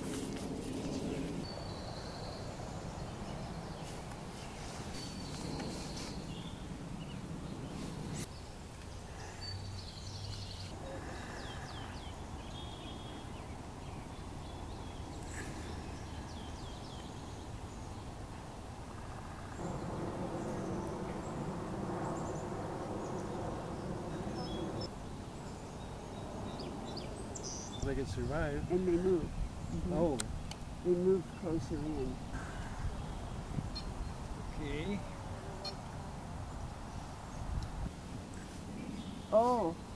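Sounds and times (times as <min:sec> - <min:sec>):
small birds chirping: 0:00.0 - 0:39.9
steady outdoor background noise: 0:00.0 - 0:39.9.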